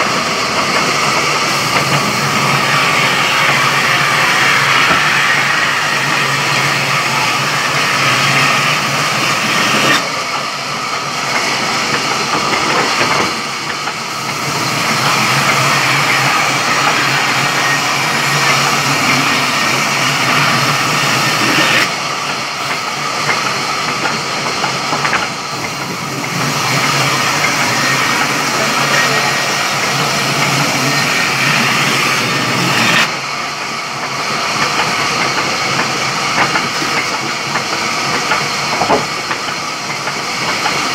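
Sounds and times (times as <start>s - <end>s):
sawmill saw cutting logs: 0.0s - 40.9s.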